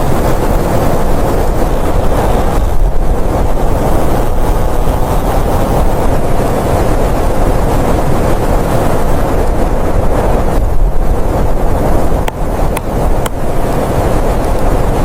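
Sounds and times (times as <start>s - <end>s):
strong blizzard wind: 0.0s - 15.0s.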